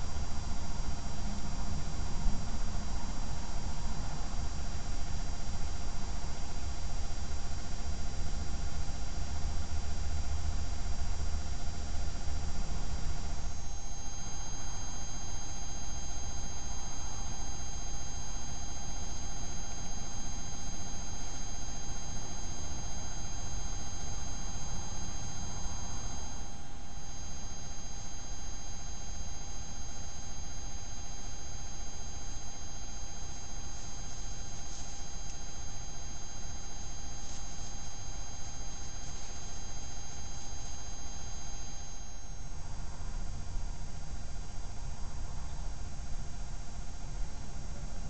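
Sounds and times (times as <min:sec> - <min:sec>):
thin electronic whine: 0:00.0 - 0:48.0.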